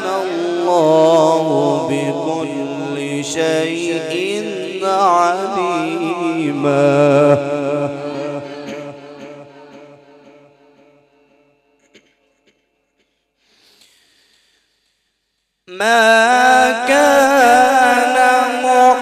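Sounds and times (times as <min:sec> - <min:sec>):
man reciting melodically with echo: 0:00.0 - 0:12.6, 0:15.6 - 0:19.0.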